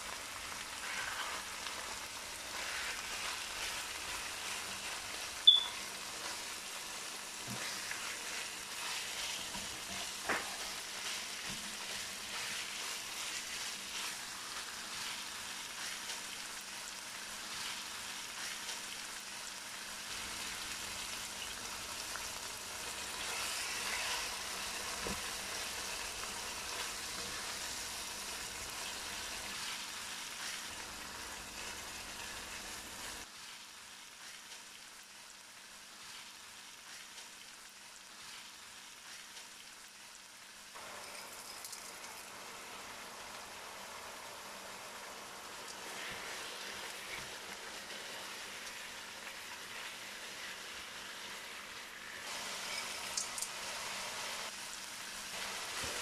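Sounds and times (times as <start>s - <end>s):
chicken sizzling in a wok: 0.0s - 56.0s.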